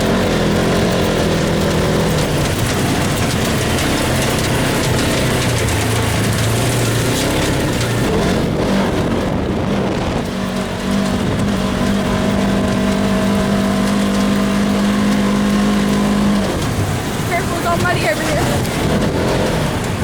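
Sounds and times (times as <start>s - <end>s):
road and chassis noise: 0.0s - 20.0s
vehicle engine driving: 0.0s - 20.0s.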